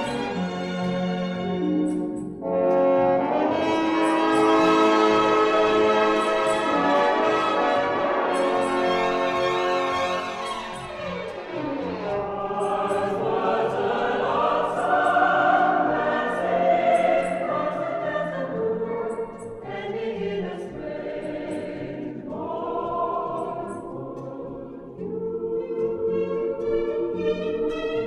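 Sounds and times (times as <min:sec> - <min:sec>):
orchestra: 0:00.0 - 0:28.0
choir singing held chords: 0:02.3 - 0:28.0.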